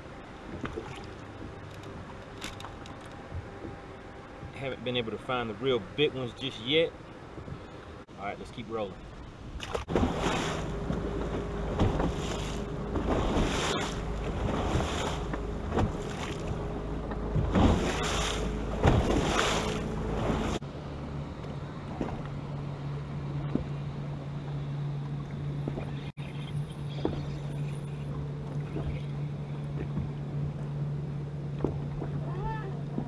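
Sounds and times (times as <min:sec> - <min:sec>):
water slapping boat hull: 0:00.0 - 0:33.0.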